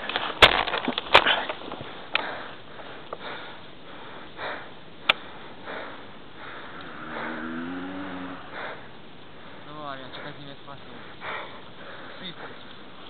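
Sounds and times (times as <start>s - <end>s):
heavy breathing and sniffing: 1.2s - 7.6s, 8.3s - 13.0s.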